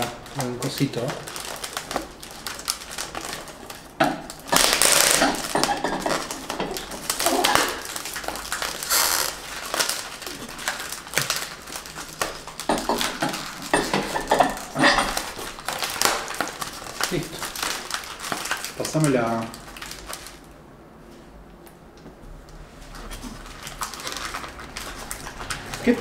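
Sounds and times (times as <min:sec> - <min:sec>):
plastic wrapping rustling: 0:00.0 - 0:21.4, 0:22.2 - 0:26.0.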